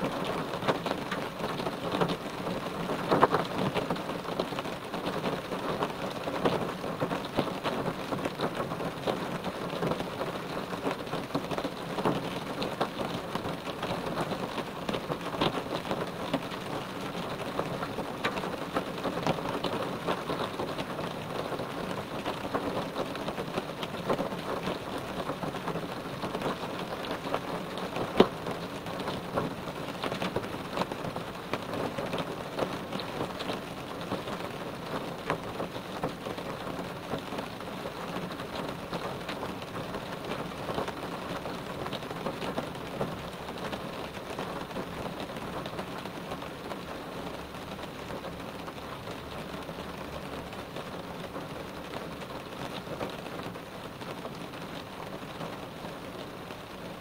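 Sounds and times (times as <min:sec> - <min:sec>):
rain on a car roof: 0:00.0 - 0:57.0.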